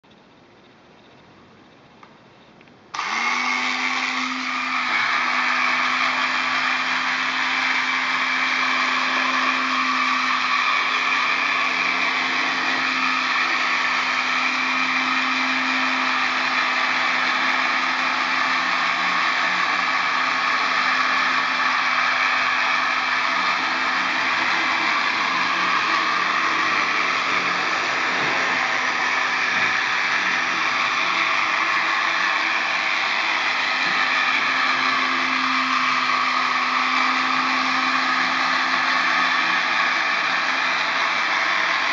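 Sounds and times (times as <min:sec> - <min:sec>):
small robot vacuum whirring: 0:02.9 - 0:41.9.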